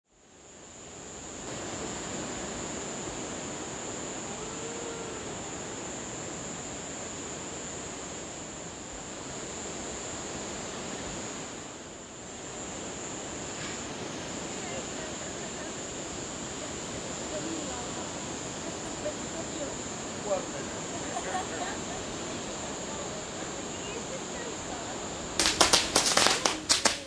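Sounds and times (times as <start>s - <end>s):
surf on a beach: 0.1s - 27.0s.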